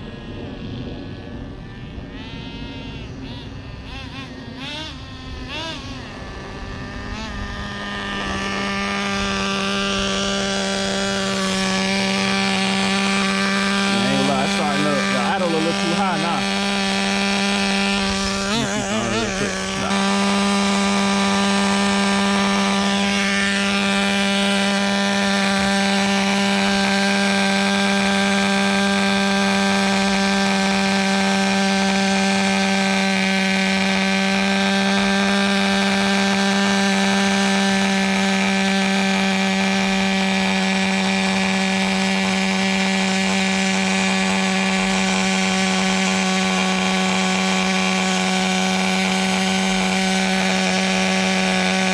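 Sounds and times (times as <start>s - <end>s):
small engine buzzing whine: 0.0s - 51.9s.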